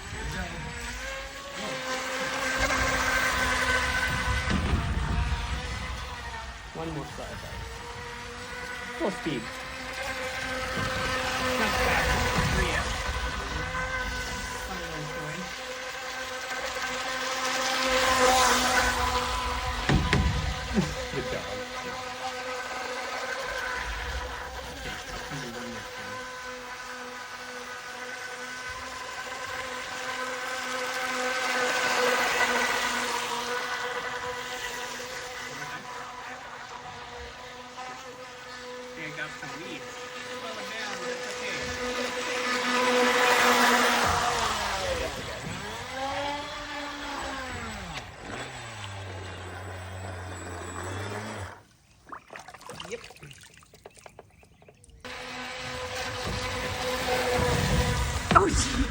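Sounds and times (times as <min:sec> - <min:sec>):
electric motor whining: 0:00.0 - 0:52.1, 0:54.1 - 0:58.9.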